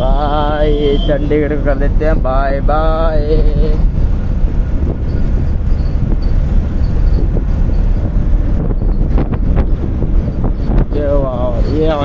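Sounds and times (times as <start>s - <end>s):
truck engine and road rumble: 0.0s - 12.0s
wind buffeting microphone: 1.6s - 12.0s.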